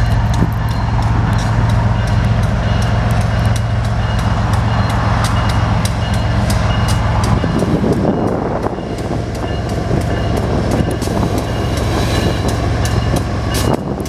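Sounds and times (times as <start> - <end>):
crossing bell ringing: 0.0 - 14.0
freight train engine rumble: 0.0 - 14.0.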